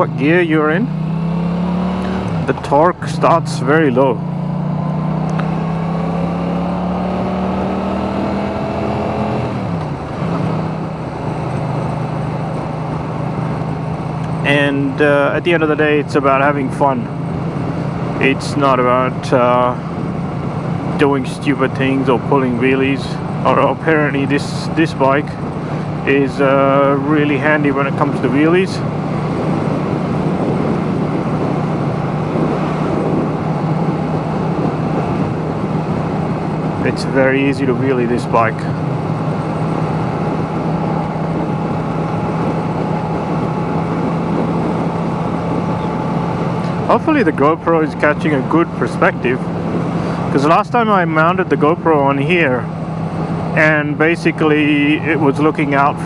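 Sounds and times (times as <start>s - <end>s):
motorcycle engine under way: 0.0s - 56.0s
wind rush: 4.8s - 50.6s.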